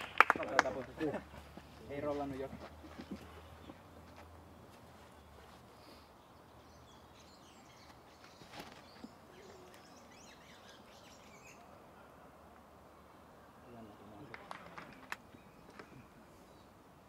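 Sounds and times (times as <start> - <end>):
faint birdsong: 0.0 - 17.0
low outdoor hush: 0.0 - 17.0.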